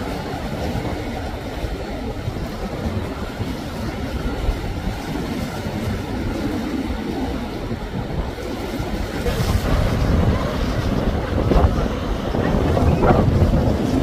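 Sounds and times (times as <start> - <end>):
outboard engines rumbling: 0.0 - 14.0
water and waves washing: 0.0 - 14.0.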